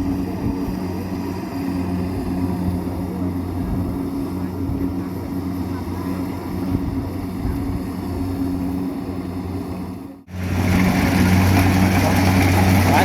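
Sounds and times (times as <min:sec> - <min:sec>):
harvester engine humming: 0:00.0 - 0:13.0.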